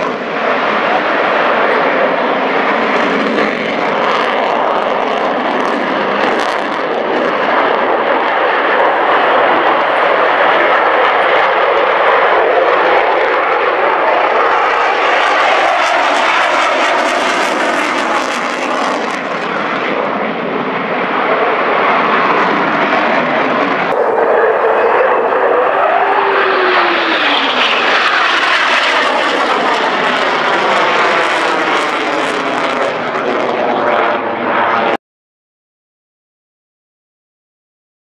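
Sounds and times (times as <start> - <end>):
jet engine whine gliding in pitch: 0.0 - 35.0
jet roar in afterburner: 0.0 - 35.0.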